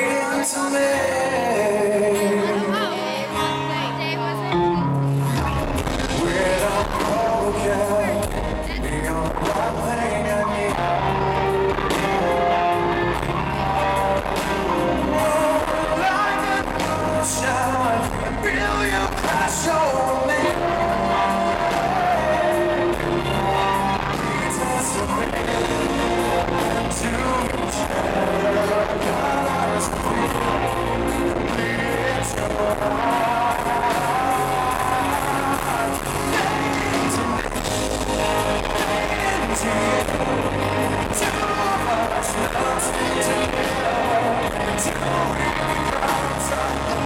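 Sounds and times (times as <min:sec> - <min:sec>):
live rock band: 0:00.0 - 0:47.0
man singing lead vocal: 0:00.0 - 0:47.0.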